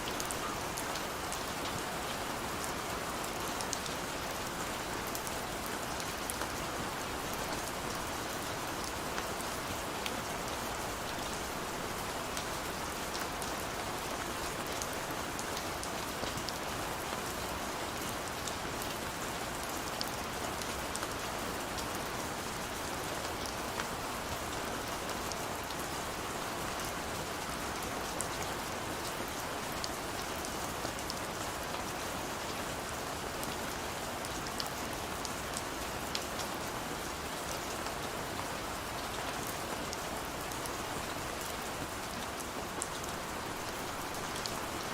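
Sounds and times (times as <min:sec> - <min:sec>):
steady rain on hard surfaces: 0:00.0 - 0:44.9.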